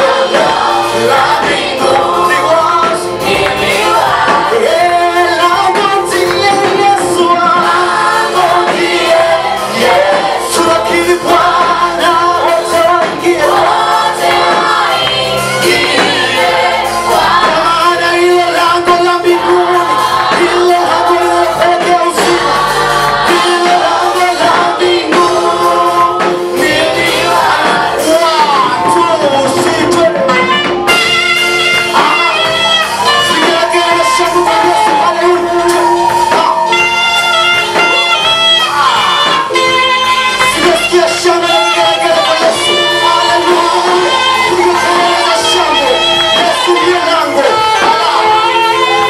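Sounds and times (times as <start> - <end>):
gospel singing with instruments: 0.0 - 49.0.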